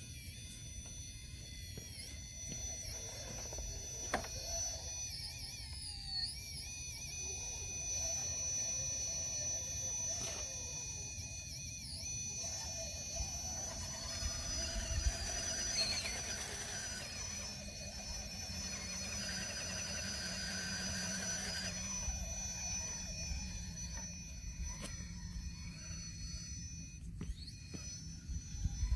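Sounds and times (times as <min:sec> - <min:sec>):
electric motor whining: 0:00.0 - 0:28.9.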